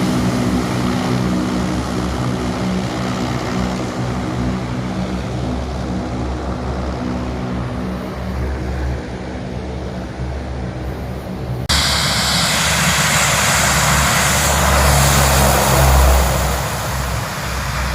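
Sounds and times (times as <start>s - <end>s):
propeller airplane engines droning: 0.0s - 17.9s.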